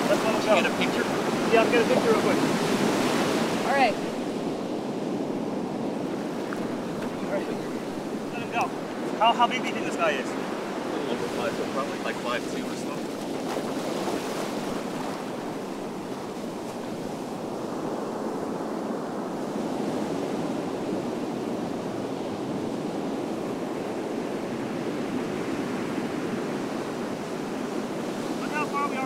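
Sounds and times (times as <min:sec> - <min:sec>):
ocean surf breaking: 0:00.0 - 0:29.0
wind on microphone: 0:00.0 - 0:29.0.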